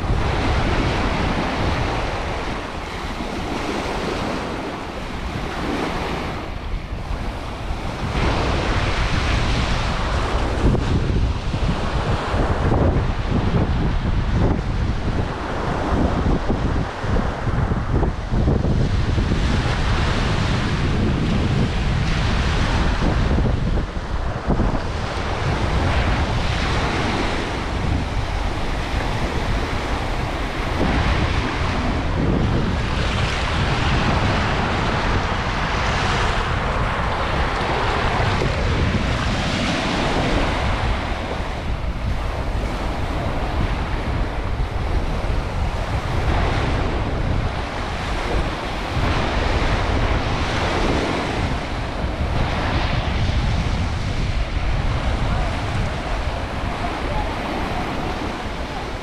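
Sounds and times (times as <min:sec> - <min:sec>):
sea waves breaking on beach: 0:00.0 - 0:59.0
wind rumbling on microphone: 0:00.0 - 0:59.0.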